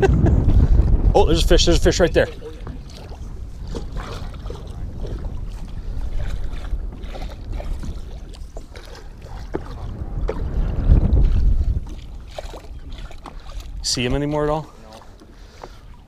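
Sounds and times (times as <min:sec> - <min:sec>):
water slapping hull: 0:00.0 - 0:16.0
wind buffeting microphone: 0:00.0 - 0:16.0.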